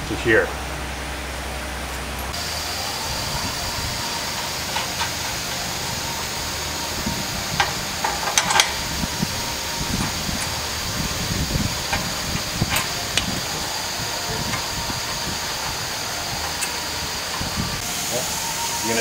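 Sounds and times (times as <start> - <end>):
faint high whine: 1.1 - 19.0.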